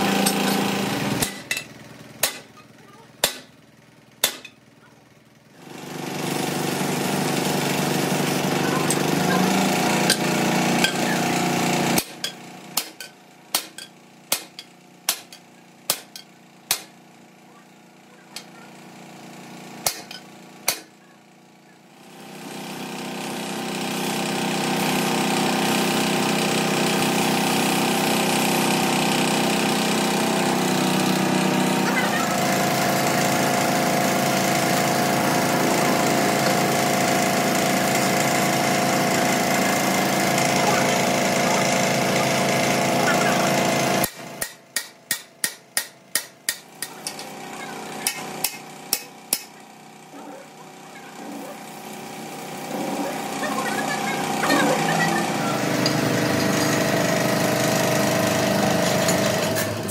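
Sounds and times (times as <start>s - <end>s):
workshop machine running: 0.0s - 59.9s.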